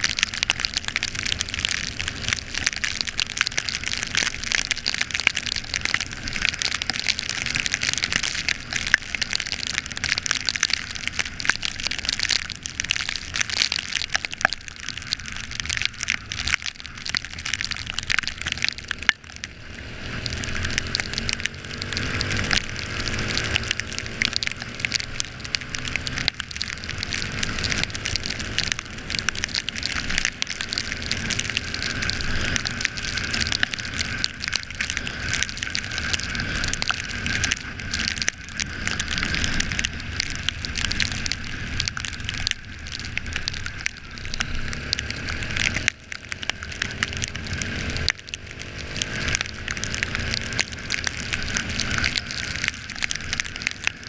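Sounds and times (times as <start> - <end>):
rain and wind on microphone: 0.0 - 54.0.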